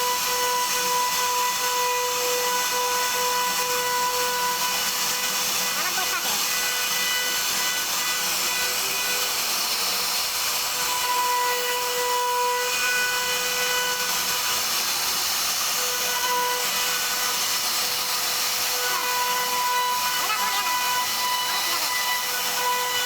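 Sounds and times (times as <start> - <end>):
bit cutting wood hiss: 0.0 - 23.0
router spindle whine: 0.0 - 23.0.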